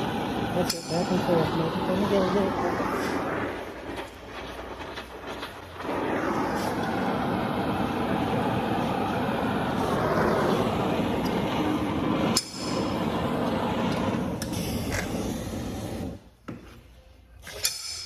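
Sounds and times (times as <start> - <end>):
torch click: 0.0 - 16.2
gas torch flame hissing: 0.0 - 16.4.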